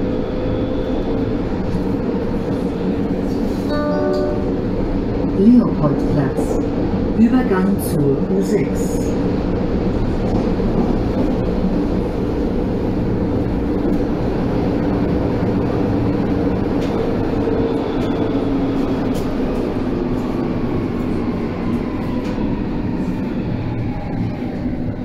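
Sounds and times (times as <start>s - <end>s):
constant drone: 0.0s - 25.0s
train wheels rumbling on rail: 0.0s - 25.0s.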